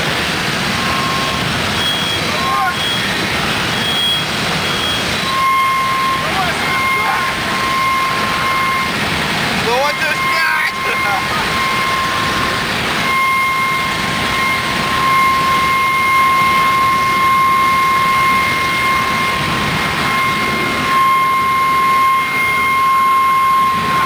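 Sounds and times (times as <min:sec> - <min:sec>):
high-pitched whine: 0:00.0 - 0:24.0
steady machine noise: 0:00.0 - 0:24.0.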